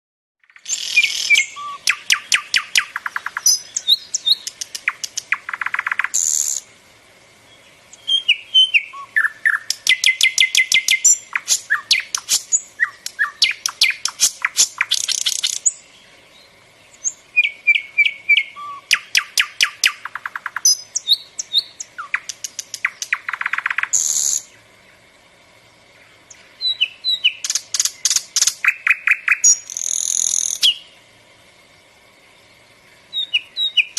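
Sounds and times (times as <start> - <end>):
nightingale singing: 0.4 - 33.9.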